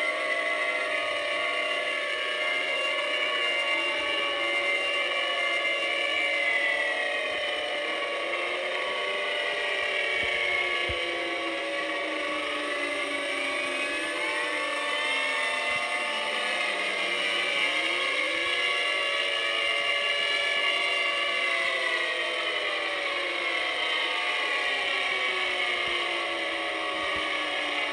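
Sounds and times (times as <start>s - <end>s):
outdoor warning sirens: 0.0s - 27.9s.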